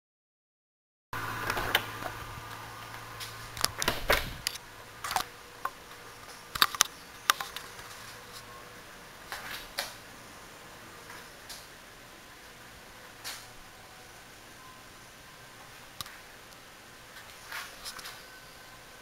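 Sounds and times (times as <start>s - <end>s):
faint steady hiss: 1.2s - 19.0s.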